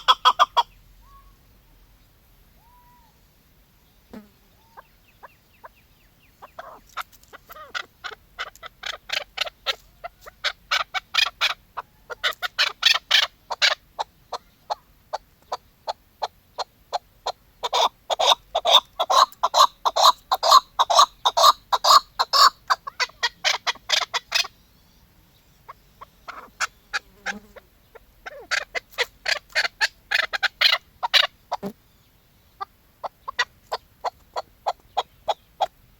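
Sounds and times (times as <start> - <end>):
partridge calling: 0.0 - 3.2, 3.8 - 35.9.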